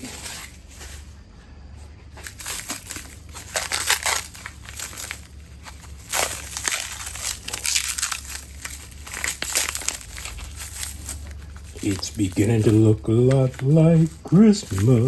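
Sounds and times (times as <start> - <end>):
packaging wrap crinkling: 2.2 - 15.0.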